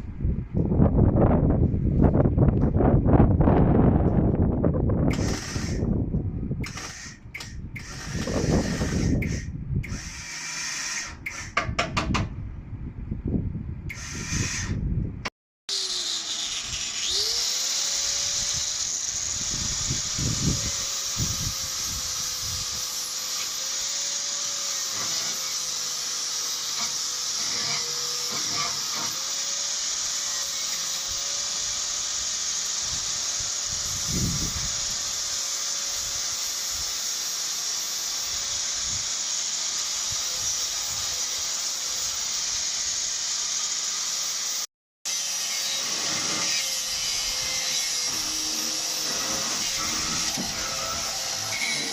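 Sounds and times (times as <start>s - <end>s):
angle grinder cutting steel: 5.1s - 5.9s, 6.7s - 11.6s, 15.7s - 51.9s.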